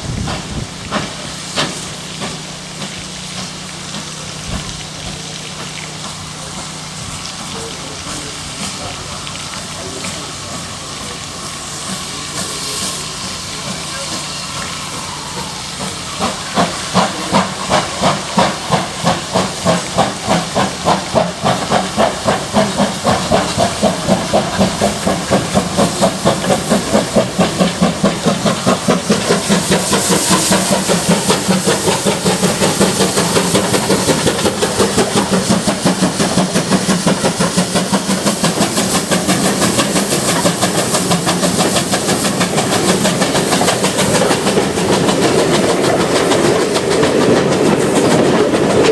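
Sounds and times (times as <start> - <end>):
steam hissing: 0.0 - 48.9
steam locomotive exhaust beats: 0.0 - 48.9.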